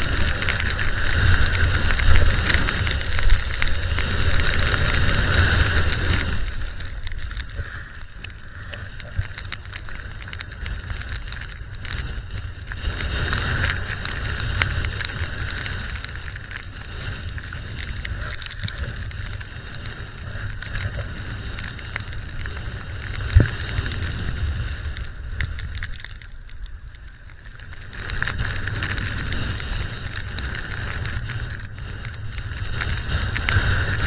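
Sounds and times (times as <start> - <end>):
small clicks: 0.0 - 34.0
wind buffeting microphone: 0.0 - 34.0.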